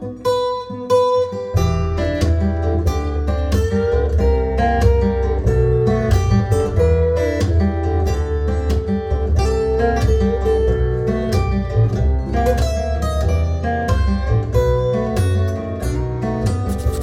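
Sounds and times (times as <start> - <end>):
acoustic guitar picking and strumming: 0.0 - 17.0
steady bass line: 1.5 - 17.0.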